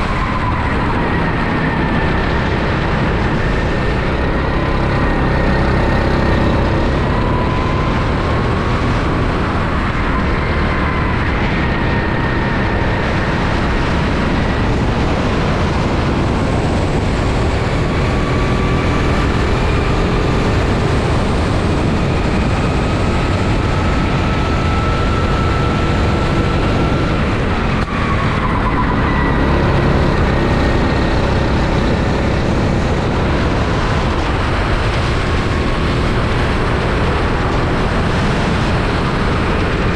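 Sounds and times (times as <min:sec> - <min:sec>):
go-kart engine at speed: 0:00.0 - 0:39.9
wind and road noise: 0:00.0 - 0:39.9.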